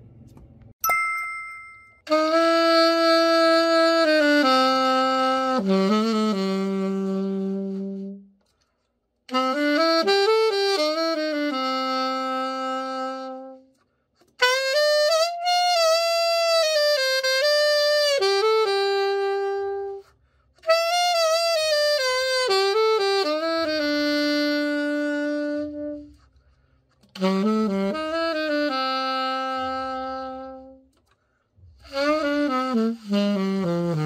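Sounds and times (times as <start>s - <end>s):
alto saxophone playing: 2.0s - 8.6s, 9.3s - 34.0s.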